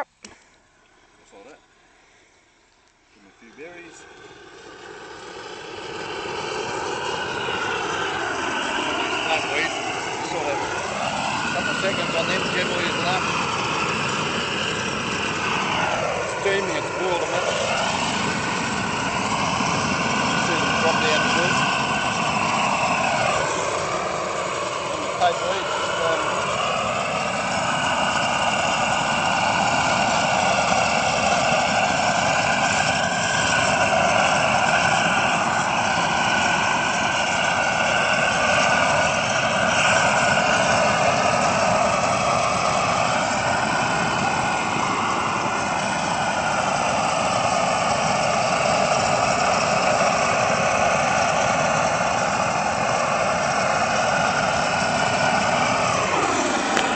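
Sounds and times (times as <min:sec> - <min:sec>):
steam weed killer running: 0:03.1 - 0:56.9
steam jetting from lance: 0:03.3 - 0:56.9.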